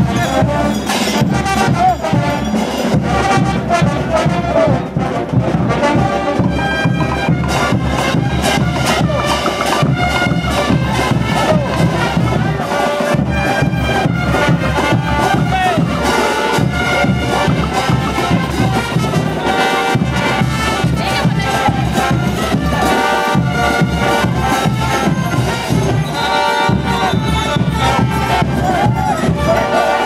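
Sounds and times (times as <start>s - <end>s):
brass band playing: 0.0s - 30.0s
steady drum beat: 0.0s - 30.0s.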